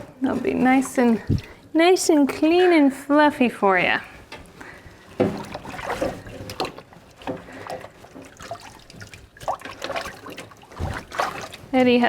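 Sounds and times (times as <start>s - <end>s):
bath water sloshing: 0.0s - 12.0s.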